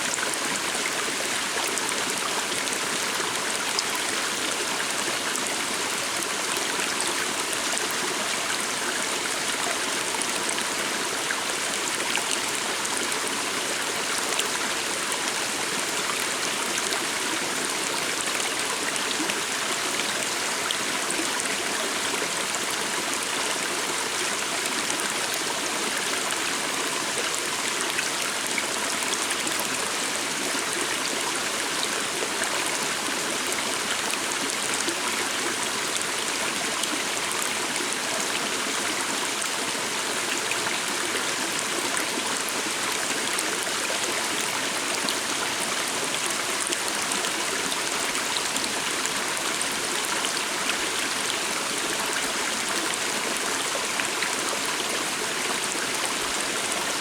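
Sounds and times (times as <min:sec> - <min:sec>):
small stream babbling: 0:00.0 - 0:57.0.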